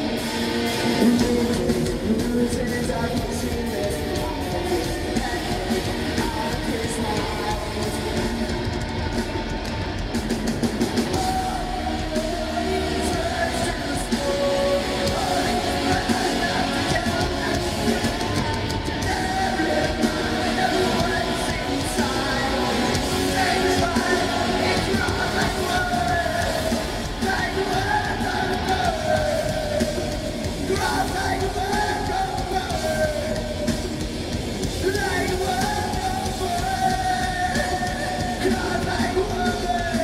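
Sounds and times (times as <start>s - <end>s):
live rock band playing: 0.0s - 40.0s
person singing: 0.0s - 40.0s.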